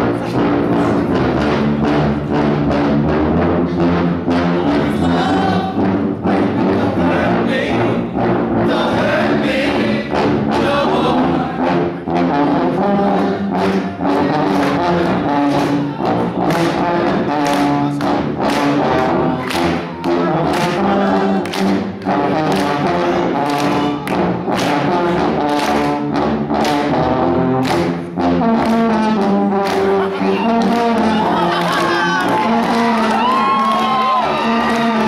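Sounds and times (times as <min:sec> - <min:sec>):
brass-led music with beat: 0:00.0 - 0:35.0.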